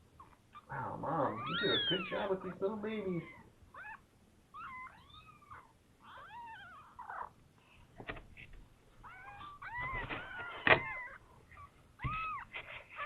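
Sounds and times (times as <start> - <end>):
kittens mewing: 0.1 - 7.4, 9.0 - 13.0.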